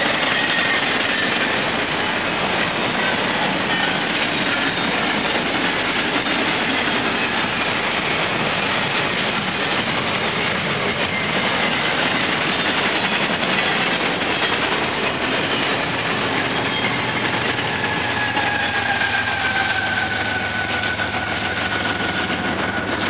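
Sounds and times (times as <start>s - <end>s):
train cars rolling past: 0.0s - 23.0s.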